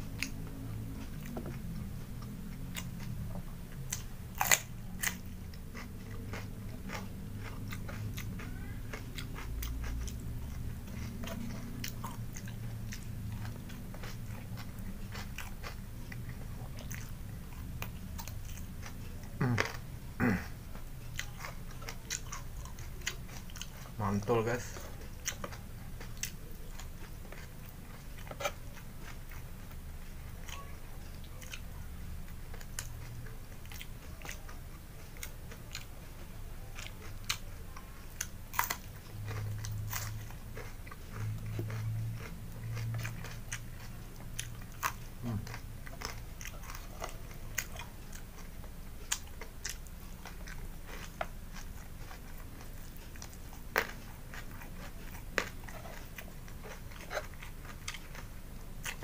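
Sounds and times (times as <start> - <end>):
steady low hum: 0.0 - 59.0
raw vegetables crunching: 0.1 - 29.4, 32.5 - 59.0.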